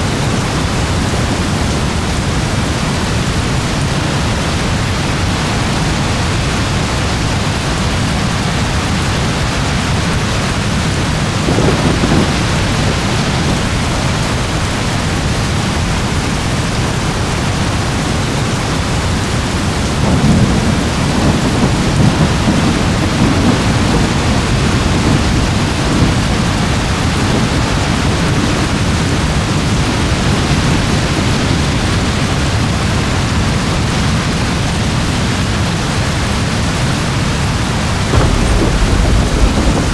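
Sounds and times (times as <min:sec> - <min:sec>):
thunder rumbling: 0:00.0 - 0:35.1, 0:37.6 - 0:39.9
heavy rain: 0:00.0 - 0:39.9.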